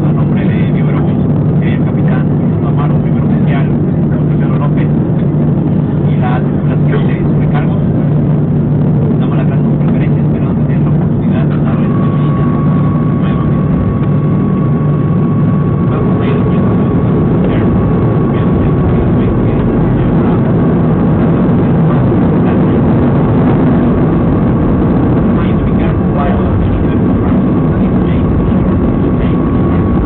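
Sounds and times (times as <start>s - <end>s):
jet engines rumbling: 0.0s - 30.0s
thin steady whine: 0.0s - 30.0s.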